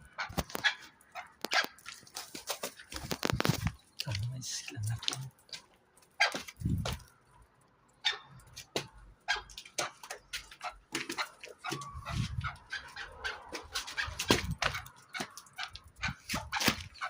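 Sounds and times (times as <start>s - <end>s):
partridges calling and scuffling: 0.0s - 7.4s, 8.0s - 17.0s.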